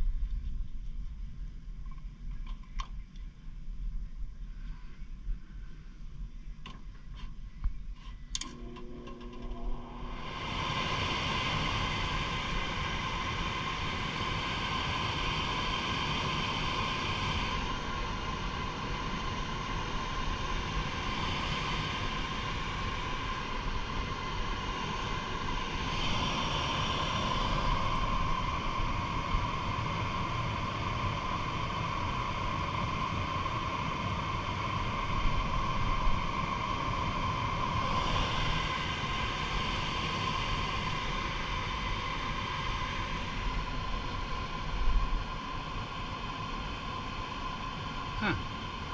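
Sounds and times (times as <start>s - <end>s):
machinery running with steady tone: 7.5s - 48.9s.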